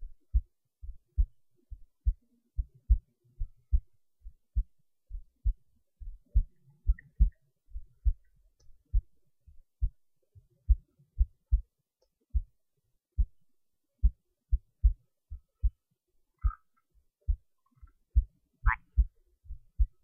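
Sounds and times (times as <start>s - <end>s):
heartbeat thumps: 0.0s - 11.7s, 12.3s - 12.6s, 13.2s - 13.4s, 14.0s - 15.8s, 16.4s - 16.7s, 17.3s - 17.5s, 18.2s - 20.0s.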